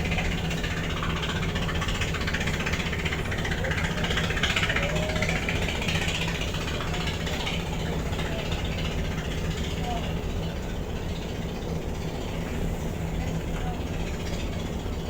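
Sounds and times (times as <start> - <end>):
ferry diesel engines droning: 0.0 - 15.0.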